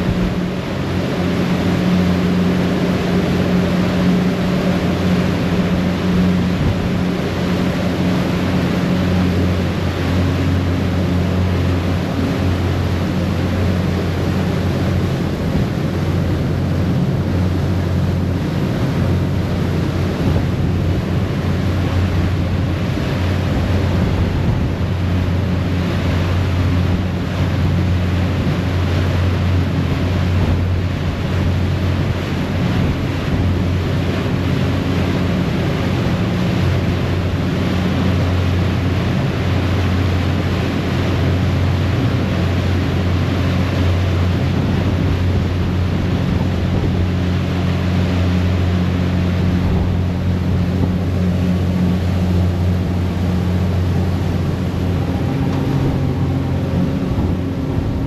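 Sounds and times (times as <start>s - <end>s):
churning wake rushing: 0.0s - 58.0s
ferry engine low hum: 0.0s - 58.0s
wind on microphone: 0.0s - 58.0s.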